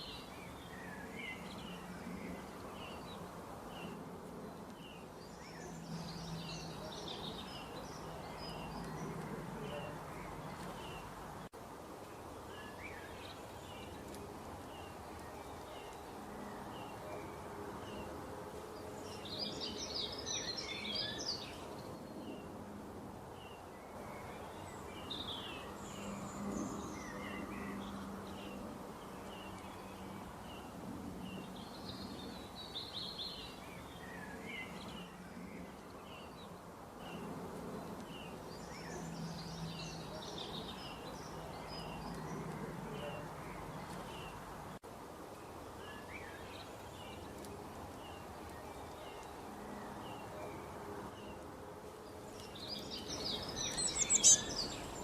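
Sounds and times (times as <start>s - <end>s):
small birds chirping: 0.0s - 22.6s, 23.2s - 55.0s.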